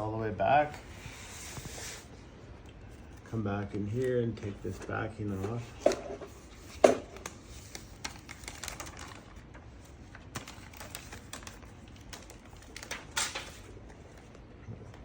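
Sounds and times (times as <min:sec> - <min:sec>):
paper rustle: 0:02.8 - 0:15.0.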